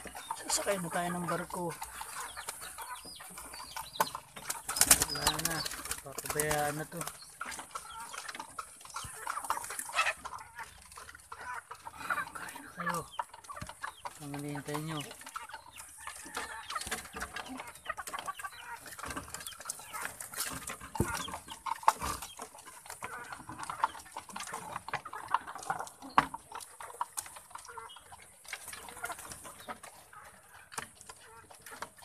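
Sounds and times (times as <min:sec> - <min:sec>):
chickens clucking: 0:00.0 - 0:32.0
pigeons pecking grain: 0:00.0 - 0:32.0
wings flapping and scrambling: 0:00.0 - 0:32.0.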